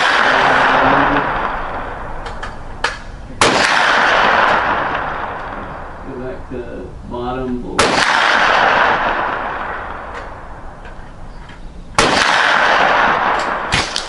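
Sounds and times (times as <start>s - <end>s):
gunshots with echoing decay: 0.0s - 6.5s, 7.7s - 11.3s, 12.0s - 14.0s.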